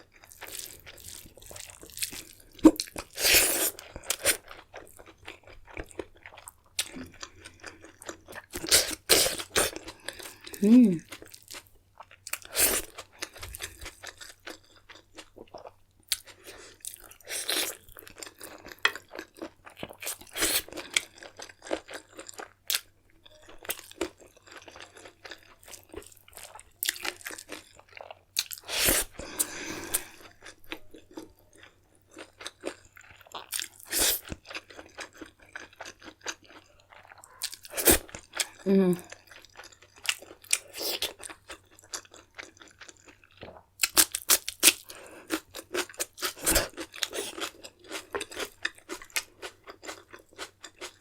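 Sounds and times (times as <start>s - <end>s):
person chewing and crunching: 0.0s - 51.0s.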